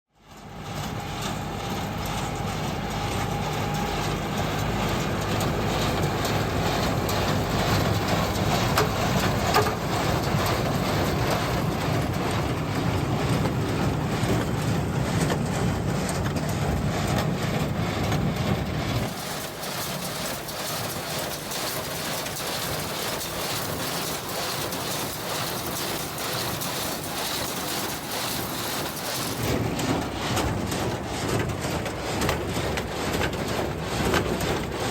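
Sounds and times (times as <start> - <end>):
hay baler machinery clatter: 0.2 - 34.9.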